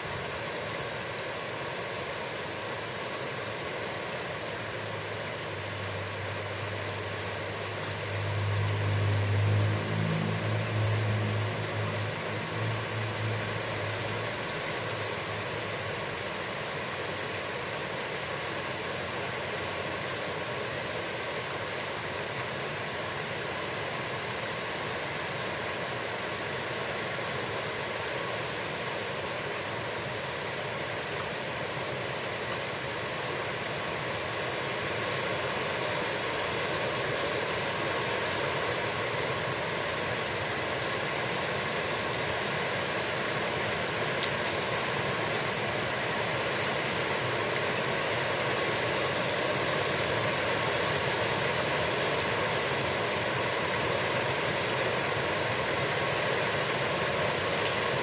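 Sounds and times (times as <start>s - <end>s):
heavy rain on a pond: 0.0s - 58.0s.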